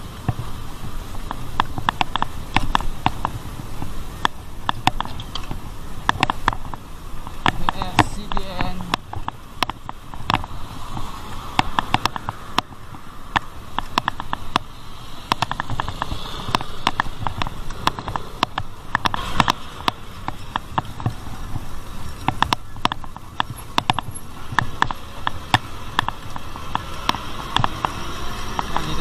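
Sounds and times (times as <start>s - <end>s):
sharp clicks and rattles: 0.0s - 29.0s
wind and road rumble: 0.0s - 29.0s.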